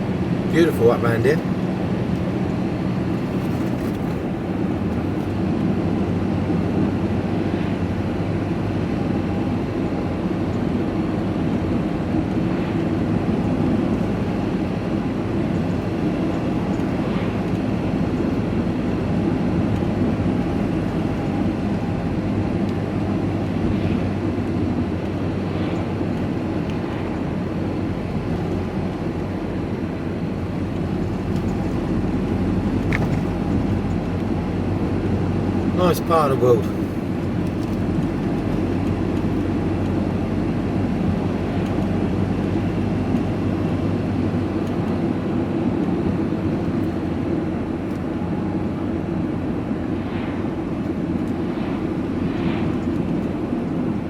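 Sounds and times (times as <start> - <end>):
road noise: 0.0 - 54.0
truck engine drone: 0.0 - 54.0.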